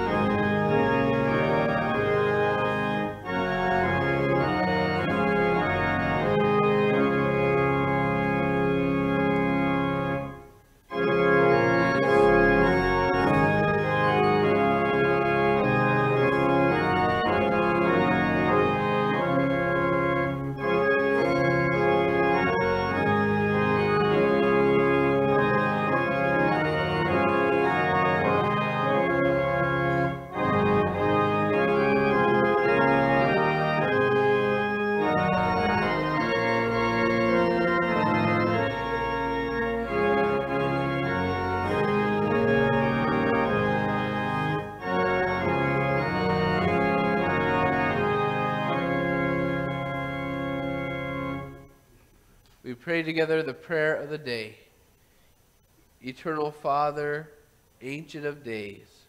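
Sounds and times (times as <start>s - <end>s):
church organ chords: 0.0s - 54.6s, 55.6s - 59.0s.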